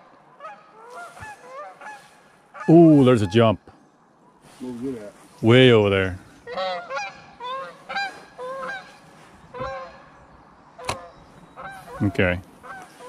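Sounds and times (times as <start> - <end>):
waterfowl calling: 0.0 - 13.0.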